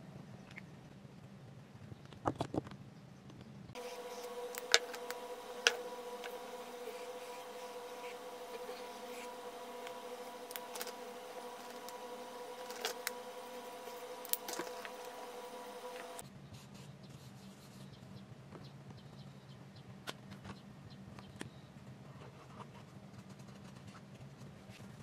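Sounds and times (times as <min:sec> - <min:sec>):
steady background hum: 0:02.8 - 0:25.0.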